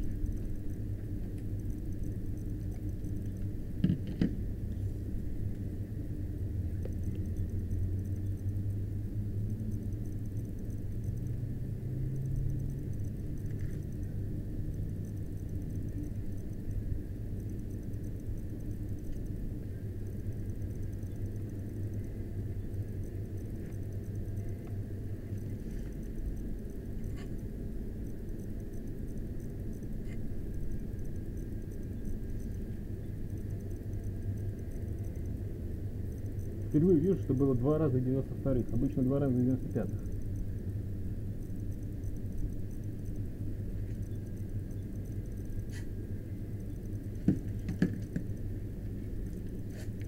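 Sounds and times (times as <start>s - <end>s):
low hum and rumble: 0.0s - 50.0s.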